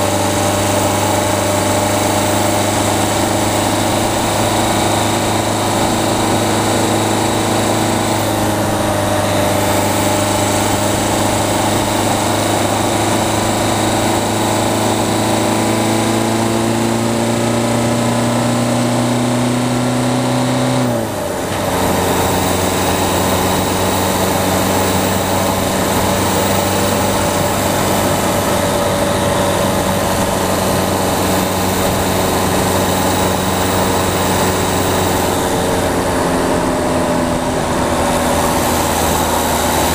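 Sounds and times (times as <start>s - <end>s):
diesel engine pulling under load: 0.0s - 39.9s.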